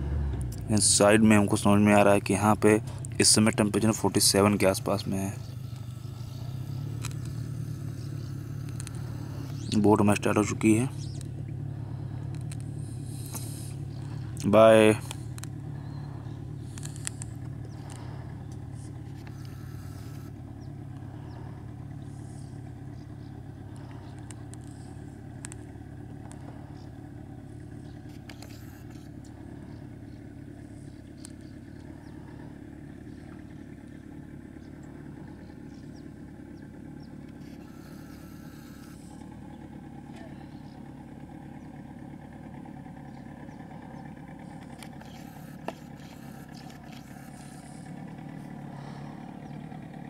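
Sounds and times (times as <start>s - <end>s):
outboard motor droning: 0.0s - 50.0s.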